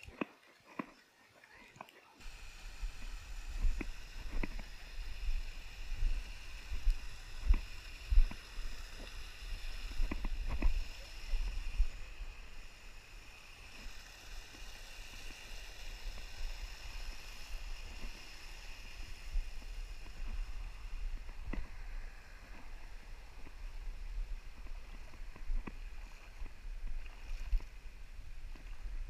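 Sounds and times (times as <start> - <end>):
small waterfall hissing: 1.5 - 29.0
low rumble of water: 2.2 - 29.0.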